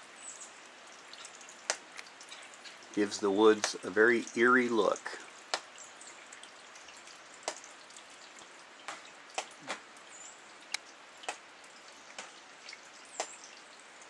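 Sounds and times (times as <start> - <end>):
faint steady hiss: 0.0 - 14.0
drops falling from trees: 1.0 - 13.7.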